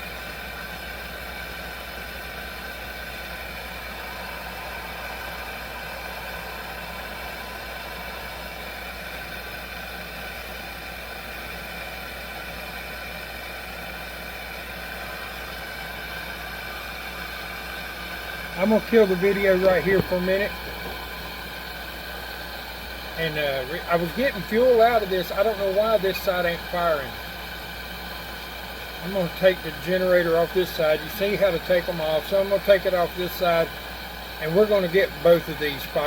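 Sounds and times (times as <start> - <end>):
stove burner burning steadily: 0.0 - 36.0.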